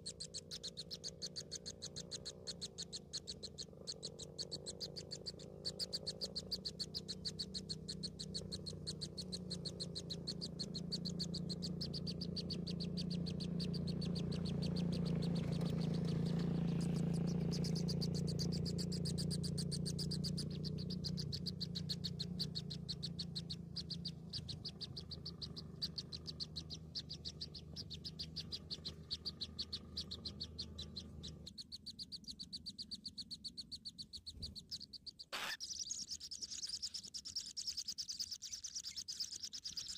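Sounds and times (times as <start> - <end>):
low steady hum: 0.0 - 39.9
nestlings cheeping: 0.0 - 39.9.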